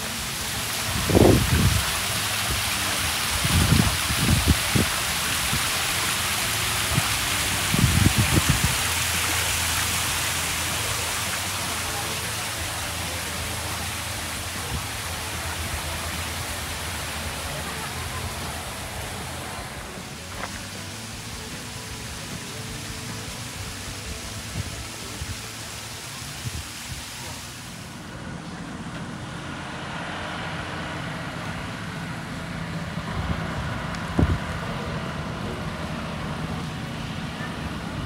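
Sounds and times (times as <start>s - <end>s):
fountain water splashing: 0.0s - 38.0s.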